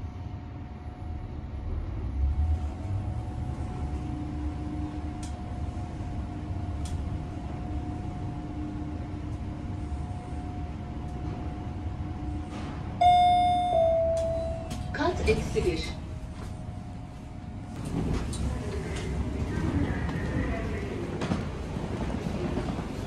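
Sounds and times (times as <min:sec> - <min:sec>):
lift travelling rumble: 0:01.0 - 0:23.0.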